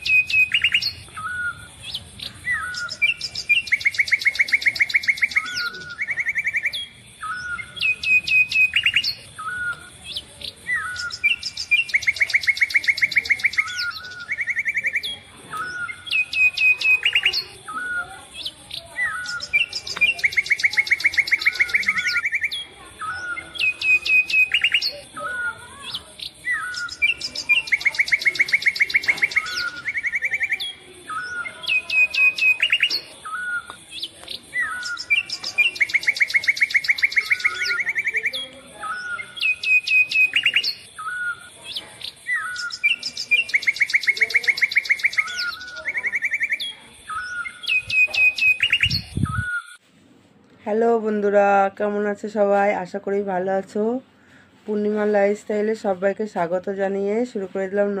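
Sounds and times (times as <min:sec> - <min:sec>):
bird chirping and trilling: 0:00.0 - 0:49.8.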